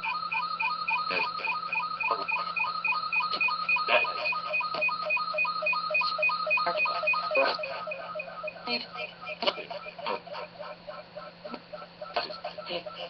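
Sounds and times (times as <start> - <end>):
chopped electronic beeps: 0.0 - 13.0
steady low hum: 0.0 - 13.0.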